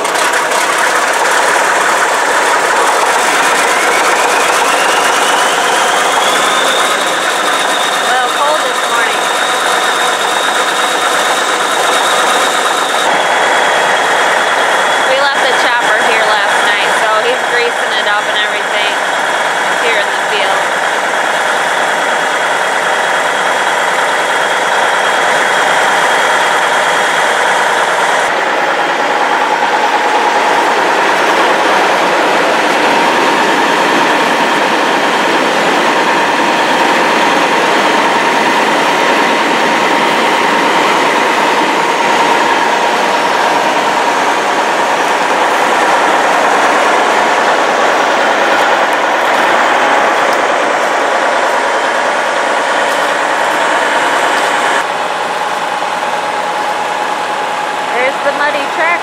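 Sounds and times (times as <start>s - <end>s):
diesel engines running: 0.0s - 59.0s
steady whine: 0.0s - 59.0s.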